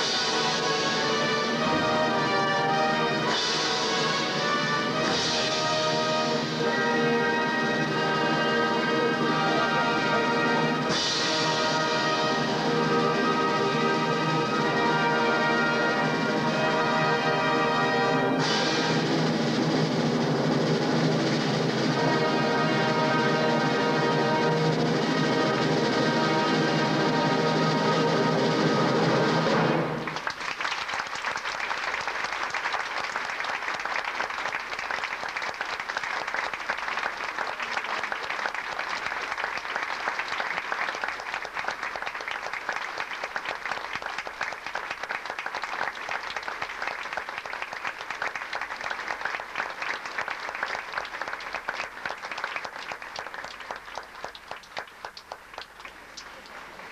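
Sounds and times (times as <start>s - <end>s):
audience applauding: 0.0s - 56.9s.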